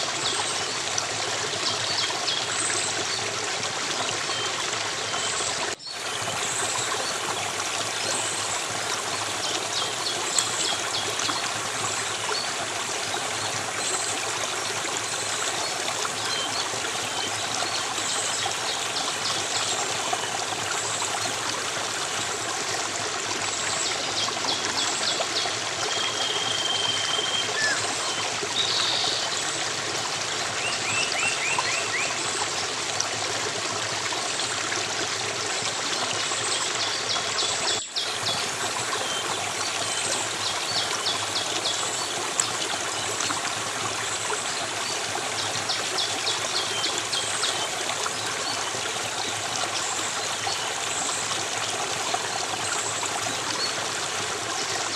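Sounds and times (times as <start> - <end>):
stream of water flowing: 0.0 - 54.9.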